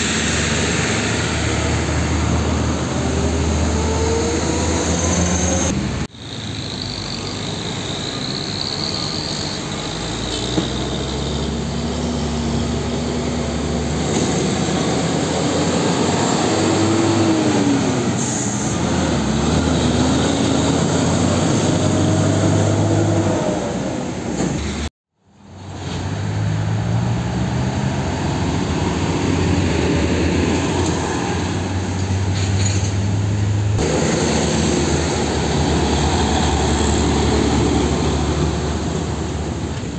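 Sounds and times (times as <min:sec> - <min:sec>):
dump trucks driving past: 0:00.0 - 0:39.9.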